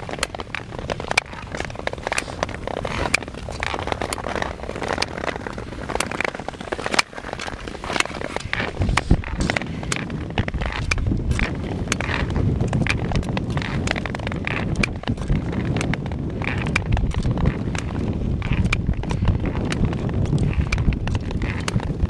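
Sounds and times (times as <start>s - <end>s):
skate blades clicking: 0.0s - 22.0s
skate blades scraping on ice: 0.0s - 22.0s.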